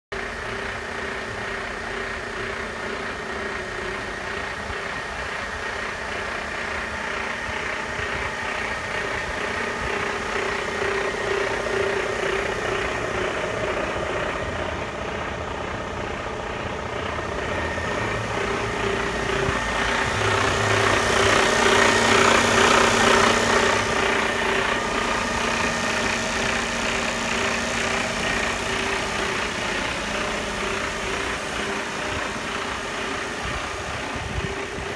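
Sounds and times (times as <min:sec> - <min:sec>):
diesel truck engine idling: 0:00.2 - 0:34.9.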